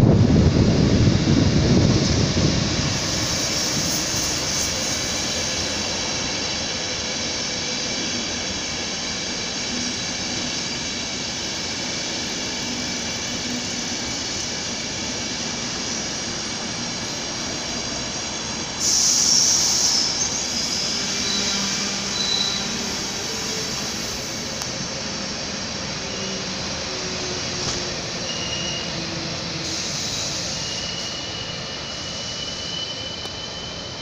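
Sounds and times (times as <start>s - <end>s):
train running with high whine: 0.0s - 34.0s.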